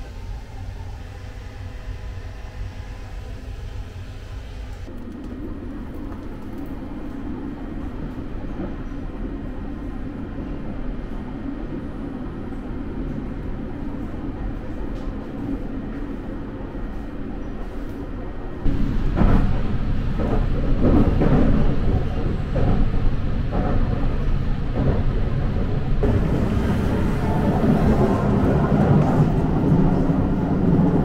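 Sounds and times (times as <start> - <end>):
train rumble inside carriage: 0.0 - 31.0.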